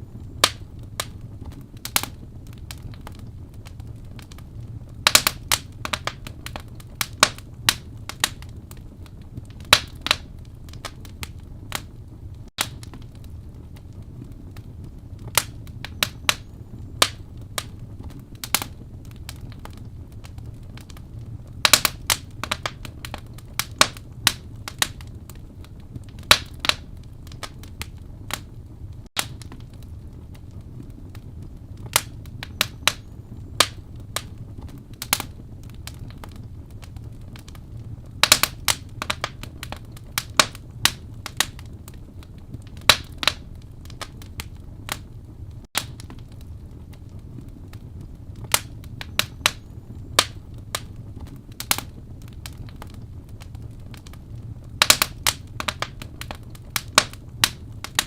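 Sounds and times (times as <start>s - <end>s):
fire crackles and pops: 0.0s - 58.0s
low fire rumble: 0.0s - 58.0s.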